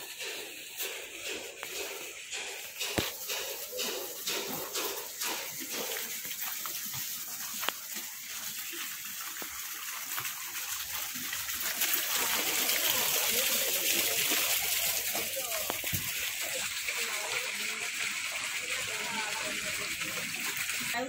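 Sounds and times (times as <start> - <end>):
garden fountain splashing: 0.0 - 21.0.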